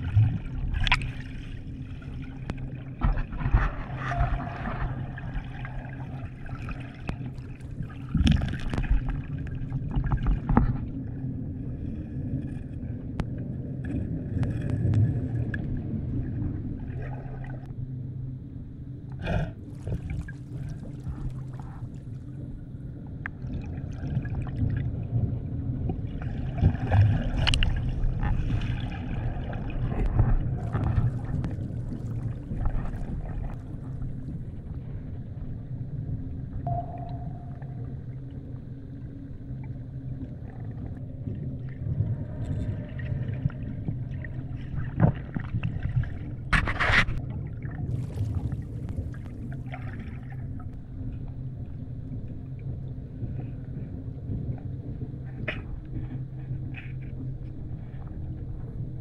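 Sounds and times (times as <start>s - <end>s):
steady low hum: 0.0s - 59.0s
water sloshing and gurgling: 0.0s - 59.0s.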